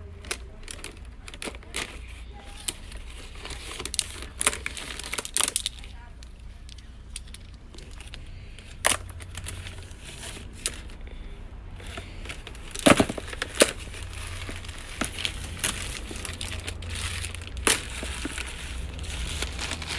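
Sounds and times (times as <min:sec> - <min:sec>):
packing material crinkling: 0:00.0 - 0:11.2, 0:11.8 - 0:19.9.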